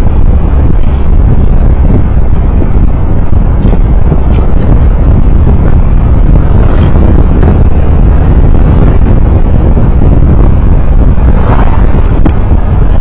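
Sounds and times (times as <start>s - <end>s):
vehicle road and wind rumble: 0.0s - 13.0s
wind buffeting microphone: 0.0s - 13.0s.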